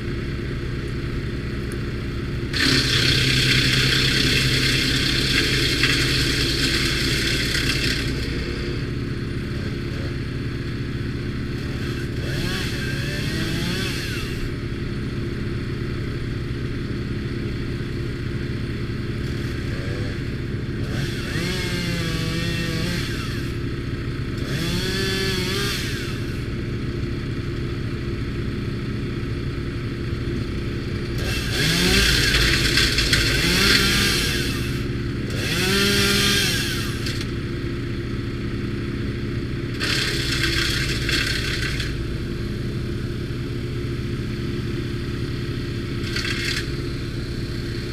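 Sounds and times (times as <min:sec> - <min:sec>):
wood chipper engine running: 0:00.0 - 0:47.9.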